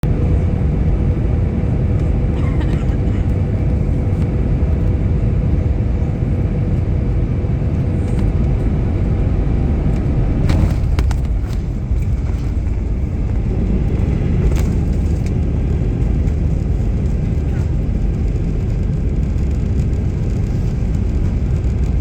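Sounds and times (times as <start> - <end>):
airliner cabin low rumble: 0.0 - 22.0.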